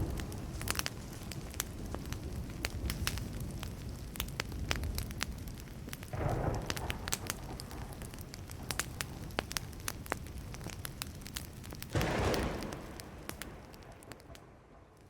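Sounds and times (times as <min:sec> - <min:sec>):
burning wood crackling and popping: 0:00.0 - 0:15.0.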